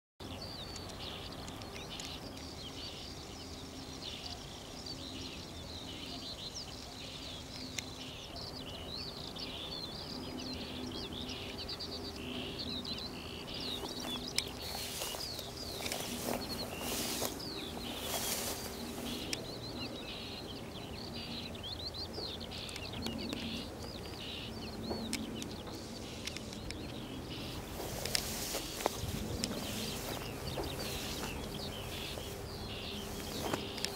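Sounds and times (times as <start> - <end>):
songbirds chirping and trilling: 0.2 - 33.9
steady low hum: 0.2 - 33.9.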